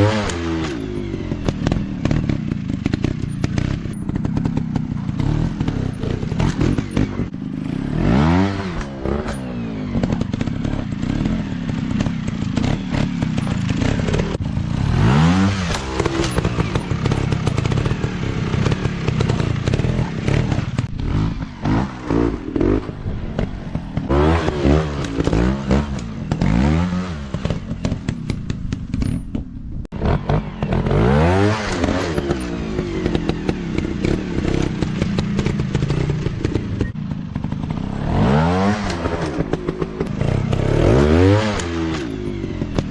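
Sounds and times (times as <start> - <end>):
dirt bike engines revving: 0.0 - 29.2, 30.0 - 42.9.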